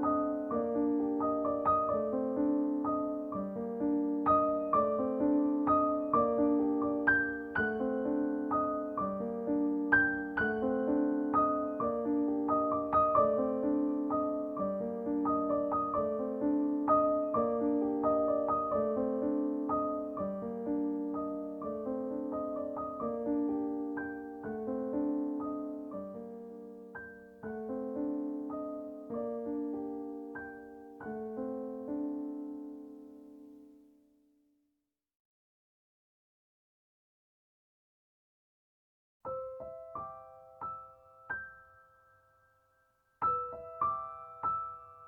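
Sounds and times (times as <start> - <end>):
soft piano music: 0.0 - 34.1, 39.3 - 45.0.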